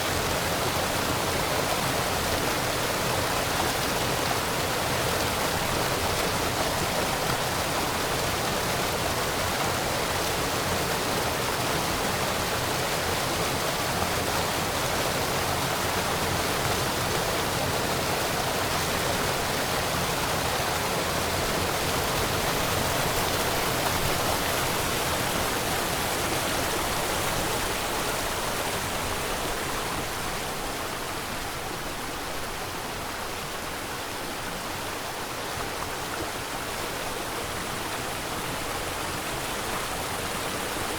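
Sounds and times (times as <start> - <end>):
small waterfall rushing: 0.0 - 40.9.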